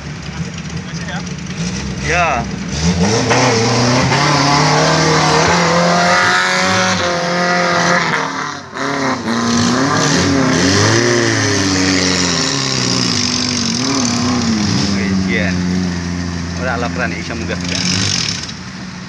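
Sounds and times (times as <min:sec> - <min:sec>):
engine revving under load: 0:00.0 - 0:18.9.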